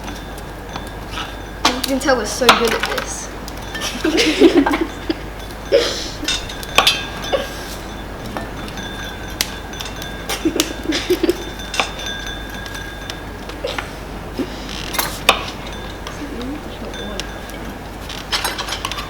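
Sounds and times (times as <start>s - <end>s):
spoons clinking against a bowl: 0.0s - 19.0s.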